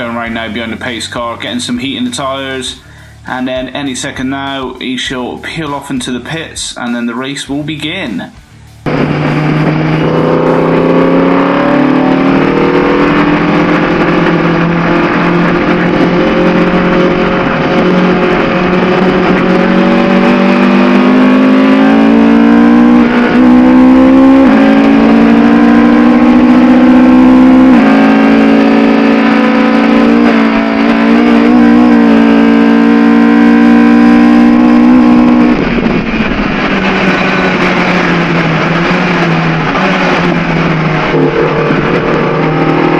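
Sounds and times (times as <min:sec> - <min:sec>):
race car engine accelerating: 0:00.0 - 0:42.9.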